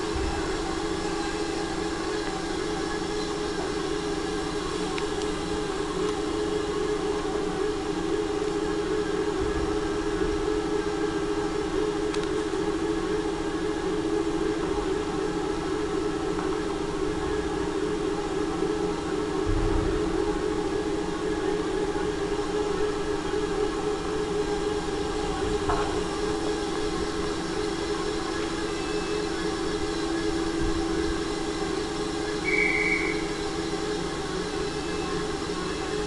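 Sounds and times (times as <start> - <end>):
electric train humming: 0.0 - 36.0.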